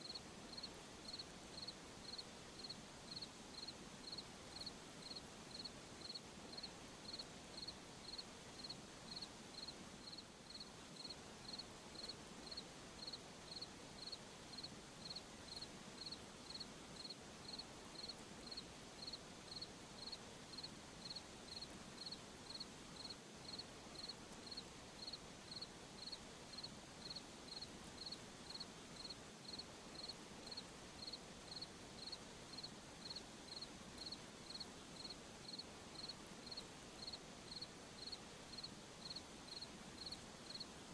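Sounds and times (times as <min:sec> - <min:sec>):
cricket chirping: 0:00.0 - 0:40.6
night insects: 0:00.0 - 0:40.9.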